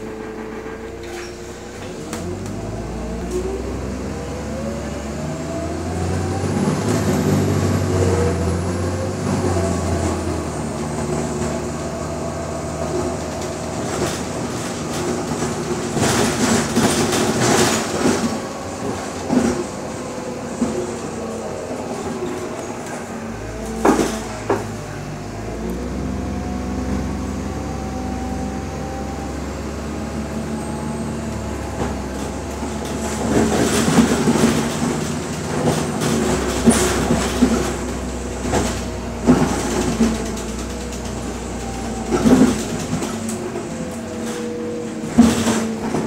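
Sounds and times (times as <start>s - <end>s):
bus body and doors rattling: 0.0s - 4.4s, 5.1s - 46.0s
bus engine humming: 0.0s - 46.0s.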